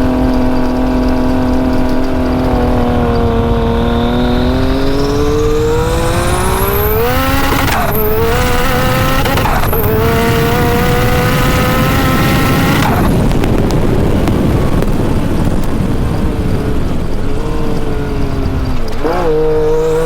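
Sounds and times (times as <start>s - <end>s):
turbocharged engine pulling hard: 0.0s - 20.0s.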